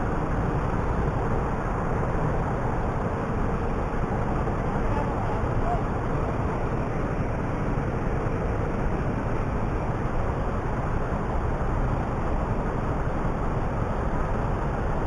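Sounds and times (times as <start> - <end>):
motorcycle road noise: 0.0 - 15.0.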